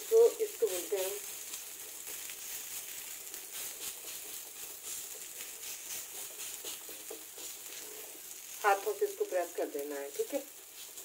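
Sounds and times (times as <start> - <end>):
flatbread sizzling on a griddle: 0.0 - 11.0.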